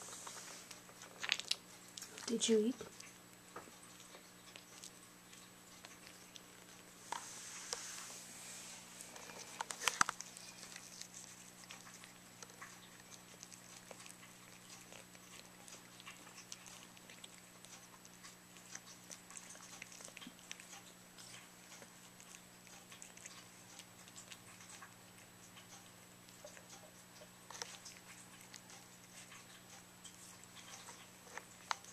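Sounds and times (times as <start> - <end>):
pets crunching treats: 0.0 - 7.3, 8.8 - 31.9
faint steady hum: 0.0 - 31.9.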